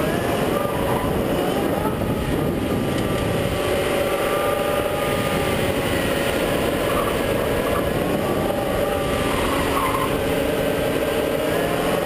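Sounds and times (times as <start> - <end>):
car engine running: 0.0 - 12.0
road rumble: 0.0 - 12.0
wind noise: 0.0 - 12.0.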